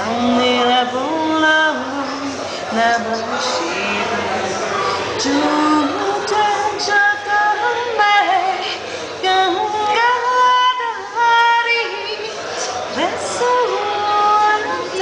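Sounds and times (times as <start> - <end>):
woman singing without words: 0.0 - 15.0.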